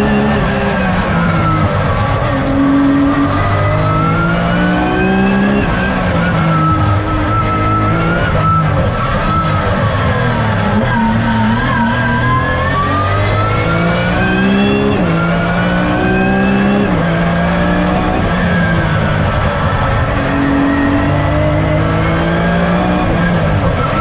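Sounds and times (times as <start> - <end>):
race car engine revving hard: 0.0 - 24.0.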